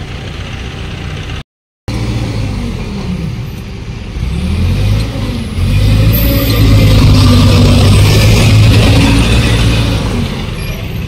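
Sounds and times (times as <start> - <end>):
vehicle engine: 0.0 - 11.0.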